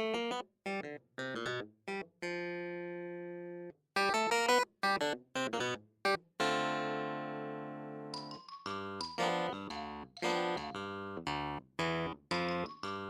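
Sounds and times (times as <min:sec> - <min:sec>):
instrumental music with clipped notes: 0:00.0 - 0:13.0.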